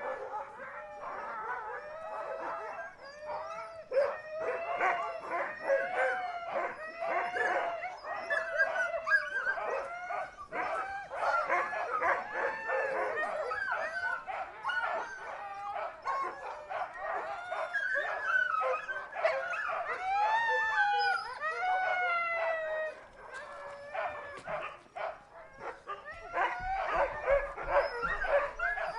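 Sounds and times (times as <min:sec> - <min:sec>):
huskies barking and yipping: 0:00.0 - 0:28.9
huskies howling: 0:00.0 - 0:28.9.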